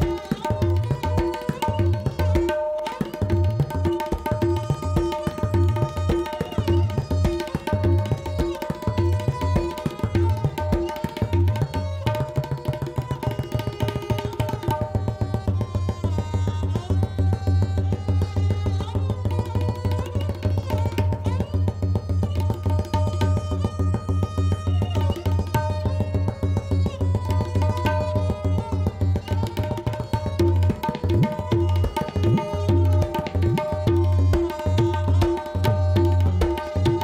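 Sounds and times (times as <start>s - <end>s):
tabla strokes: 0.0s - 37.0s.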